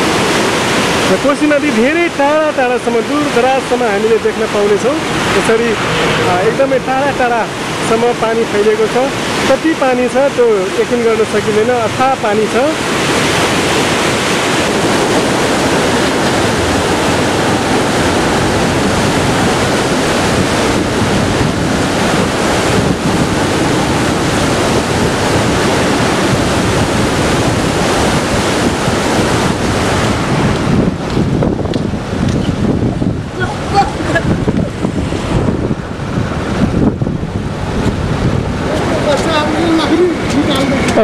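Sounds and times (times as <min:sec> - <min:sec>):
floodwater rushing: 0:00.0 - 0:41.0
wind buffeting microphone: 0:00.0 - 0:41.0.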